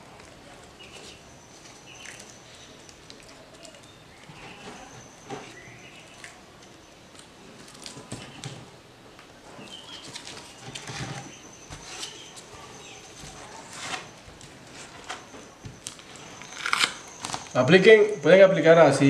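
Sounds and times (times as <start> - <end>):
birds chirping: 0.7 - 7.2, 9.5 - 19.0.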